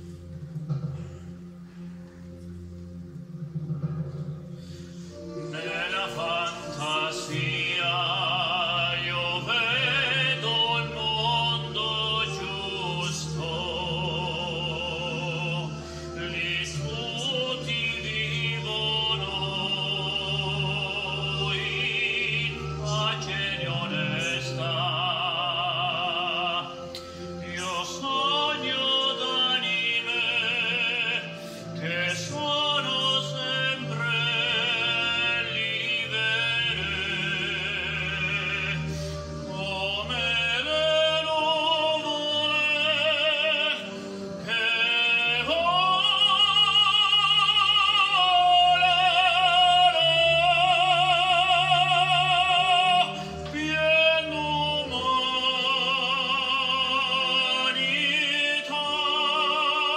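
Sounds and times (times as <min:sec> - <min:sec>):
sustained instrumental backing: 0:00.0 - 0:59.9
man singing operatically: 0:05.3 - 0:59.9.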